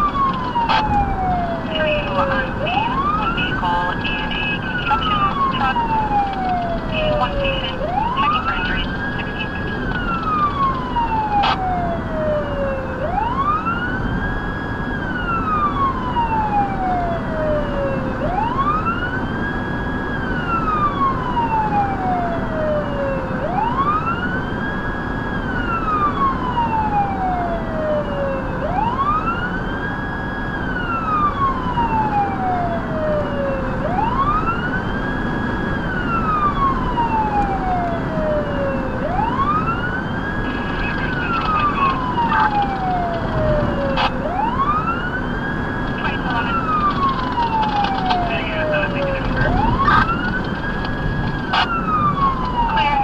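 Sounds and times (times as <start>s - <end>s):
electronic siren wailing: 0.0s - 53.0s
road noise: 0.0s - 53.0s.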